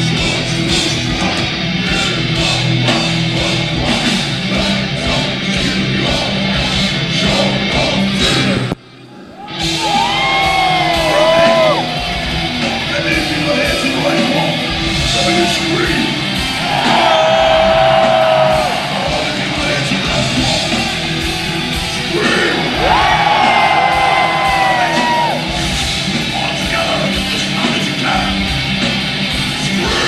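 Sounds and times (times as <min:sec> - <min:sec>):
metal band playing live: 0:00.0 - 0:08.8, 0:09.4 - 0:30.0
crowd yelling: 0:00.0 - 0:30.0.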